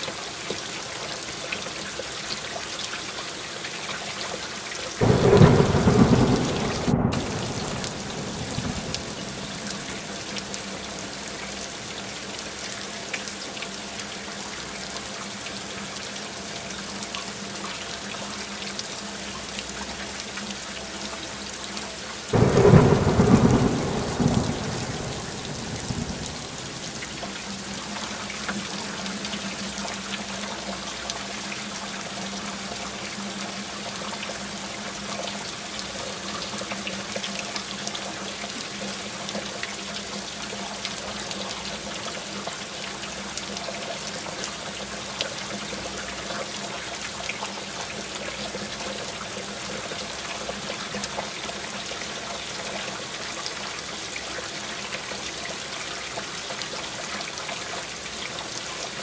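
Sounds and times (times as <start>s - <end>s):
steady rain pattering: 0.0s - 59.0s
water trickling and running: 0.0s - 59.0s.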